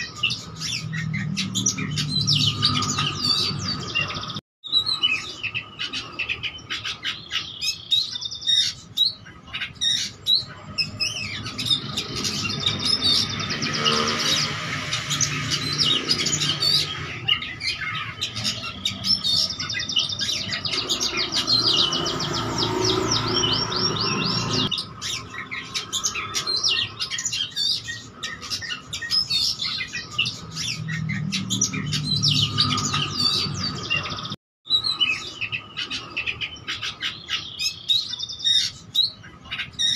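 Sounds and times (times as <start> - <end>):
songbird singing chirps and trills: 0.0 - 39.9.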